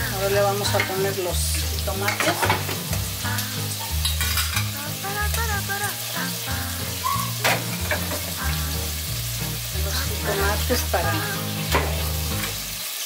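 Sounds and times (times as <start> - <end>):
meatballs sizzling in oil: 0.0 - 13.0.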